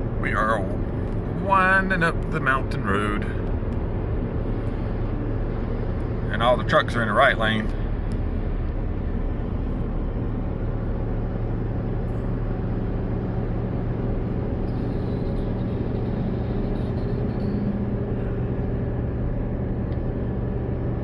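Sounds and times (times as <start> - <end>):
road noise: 0.0 - 21.0
truck engine under load: 0.0 - 21.0.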